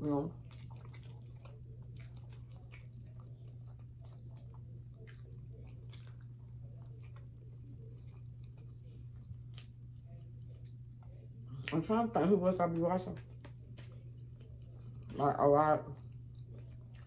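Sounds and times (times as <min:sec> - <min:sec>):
chewing meat: 0:00.0 - 0:17.0
steady low hum: 0:00.0 - 0:17.0.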